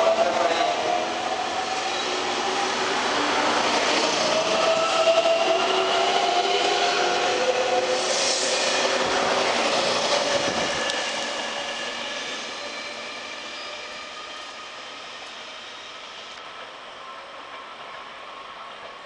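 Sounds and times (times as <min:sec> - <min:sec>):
electric train passing: 0:00.0 - 0:19.0
train wheels rumbling: 0:00.0 - 0:19.0.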